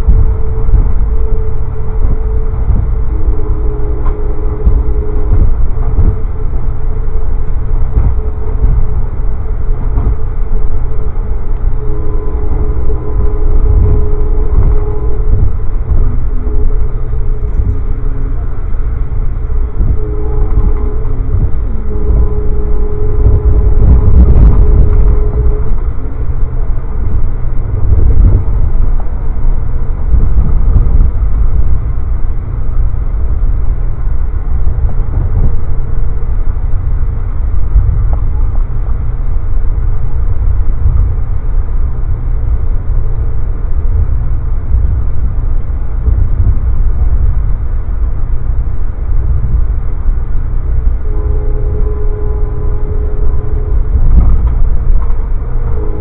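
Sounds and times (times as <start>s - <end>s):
faint steady hum: 0.0s - 56.0s
train running rumble: 0.0s - 56.0s.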